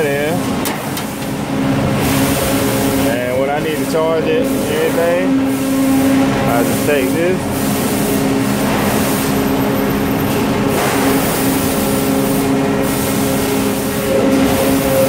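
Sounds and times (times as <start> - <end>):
machinery drone: 1.4 - 15.0.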